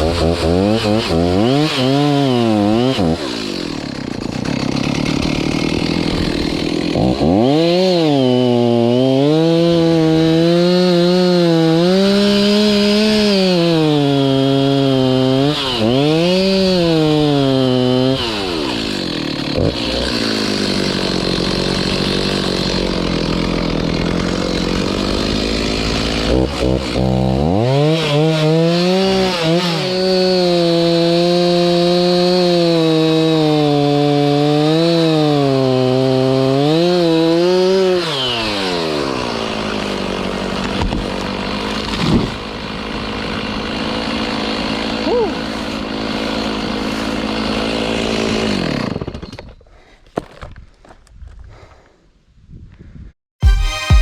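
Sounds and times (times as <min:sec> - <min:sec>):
chainsaw cutting wood: 0:00.0 - 0:50.5.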